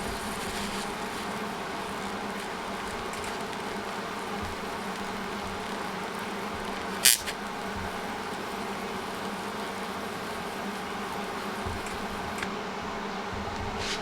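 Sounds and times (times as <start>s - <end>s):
loud hiss: 0.0s - 12.5s
machine electrical buzz: 0.0s - 14.0s.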